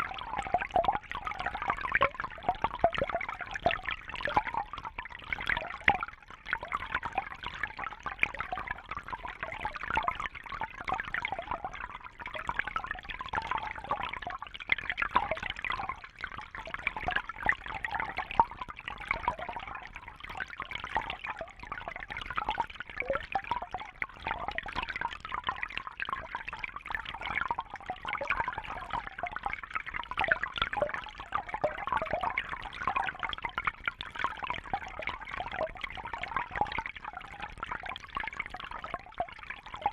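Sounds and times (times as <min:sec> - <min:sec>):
water bubbling in fish tank: 0:00.0 - 0:39.9.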